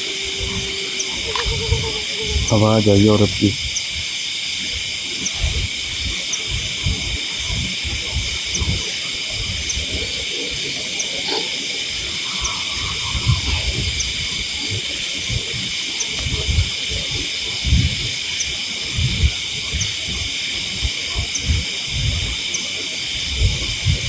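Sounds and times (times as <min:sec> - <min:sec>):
night insects chorus: 0:00.0 - 0:24.0.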